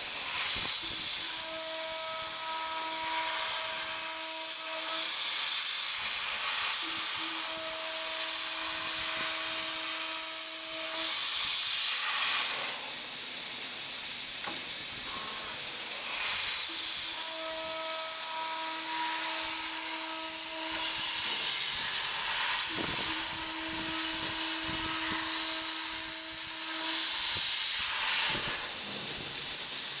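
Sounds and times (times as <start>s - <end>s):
machine hiss: 0.0s - 30.0s.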